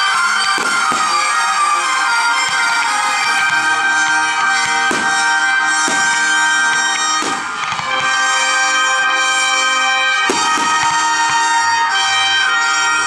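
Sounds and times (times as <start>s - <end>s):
firework bangs: 0.0s - 8.9s, 9.5s - 11.9s
loud music with held notes: 0.0s - 13.0s.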